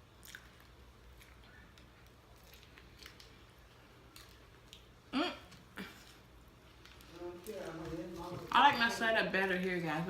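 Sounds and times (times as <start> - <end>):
faint chewing: 0.0 - 8.9
room hum: 0.0 - 10.0.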